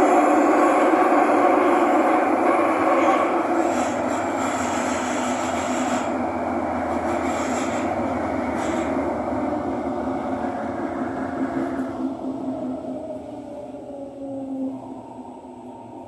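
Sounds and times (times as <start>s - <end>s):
metro train rumble and roar: 0.0s - 16.0s.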